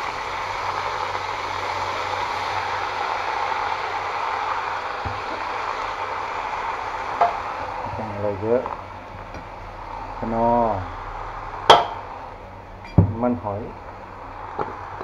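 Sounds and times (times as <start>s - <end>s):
greens sizzling in hot oil: 0.0s - 15.0s.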